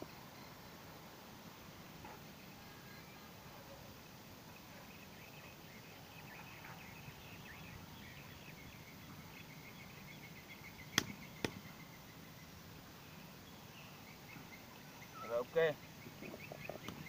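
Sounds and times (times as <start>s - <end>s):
faint high chirping: 2.0s - 17.0s.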